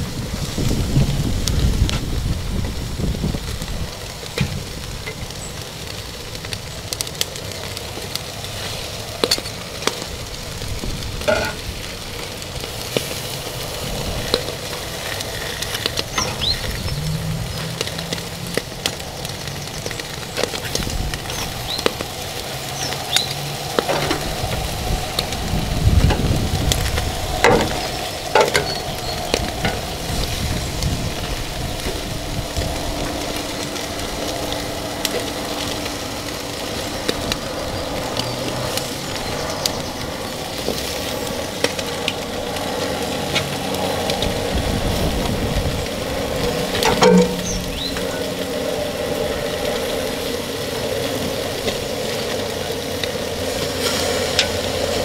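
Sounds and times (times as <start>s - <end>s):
crackles and clicks: 0.0s - 55.0s
food sizzling on a grill: 0.0s - 55.0s
wind rumbling on microphone: 0.0s - 55.0s.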